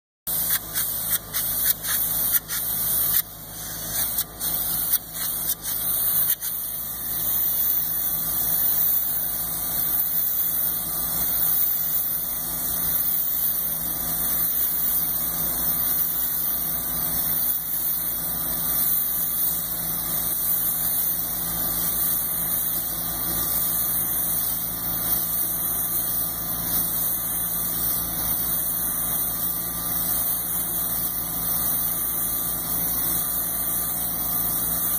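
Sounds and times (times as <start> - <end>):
spray gun hissing: 0.3 - 34.9.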